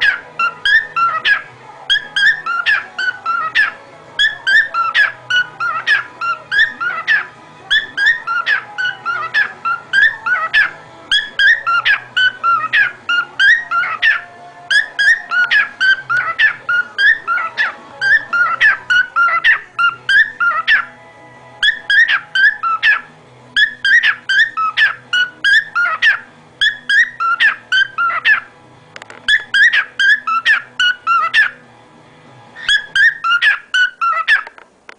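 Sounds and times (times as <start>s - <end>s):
cockatiel chirping and whistling: 0.0s - 20.9s, 21.6s - 28.5s, 29.3s - 31.6s, 32.6s - 34.6s.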